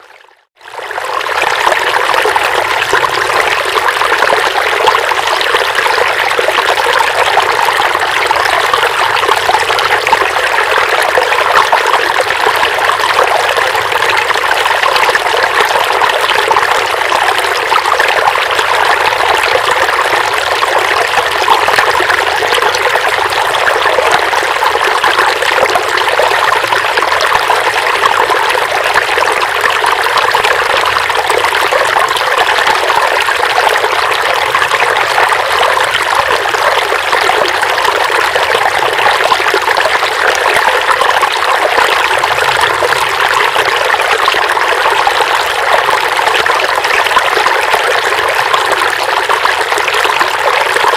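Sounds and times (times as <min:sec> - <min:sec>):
river water flowing over stones: 0:00.7 - 0:50.9.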